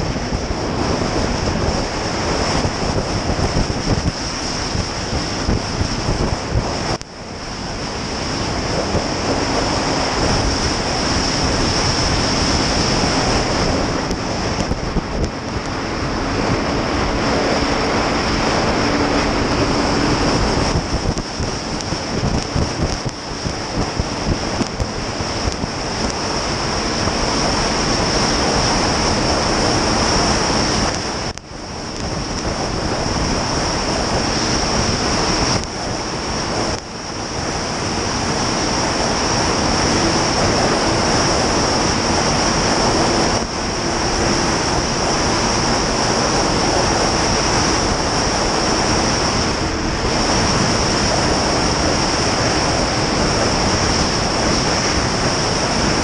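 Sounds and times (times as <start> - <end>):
snowmobile engine and track: 0.0 - 56.0
wind rushing on microphone: 0.0 - 56.0.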